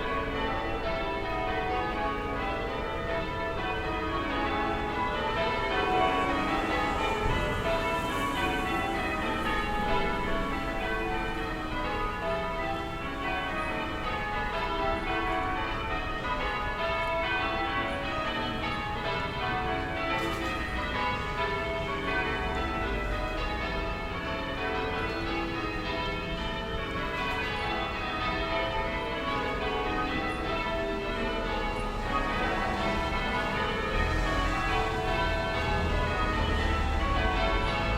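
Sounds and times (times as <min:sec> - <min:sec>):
low town ambience rumble: 0:00.0 - 0:24.9, 0:25.5 - 0:37.9
distant church bells pealing: 0:00.0 - 0:37.9.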